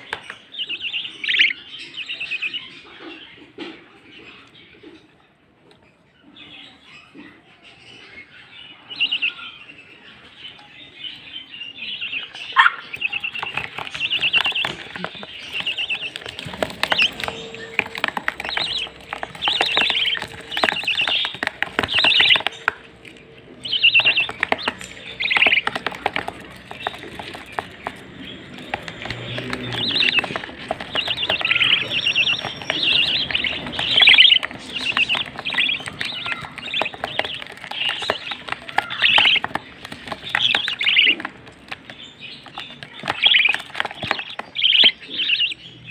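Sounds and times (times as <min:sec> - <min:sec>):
caged birds chirping and twittering: 0:00.0 - 0:45.9.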